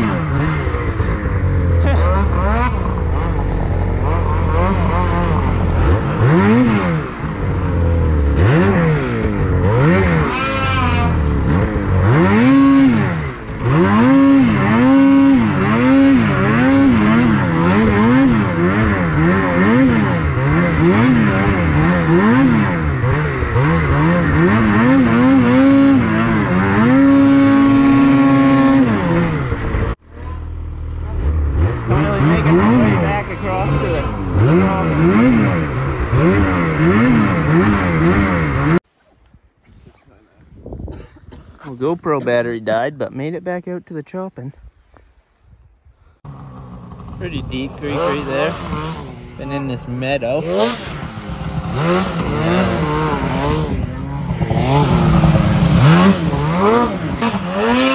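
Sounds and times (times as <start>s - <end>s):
snowmobile engine revving: 0.0s - 38.8s, 46.0s - 57.9s.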